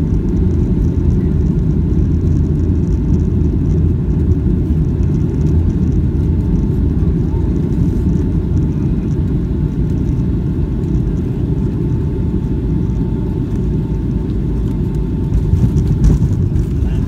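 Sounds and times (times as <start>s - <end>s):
aircraft cabin engine rumble: 0.0s - 17.0s
faint steady whine: 0.0s - 17.0s.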